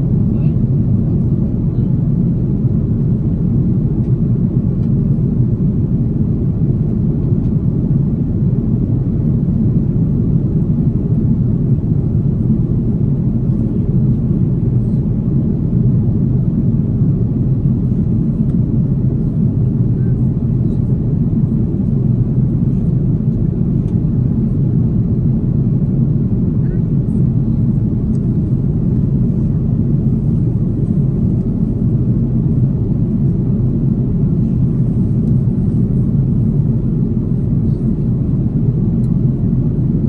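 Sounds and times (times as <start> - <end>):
jet engines low rumble: 0.0 - 40.0.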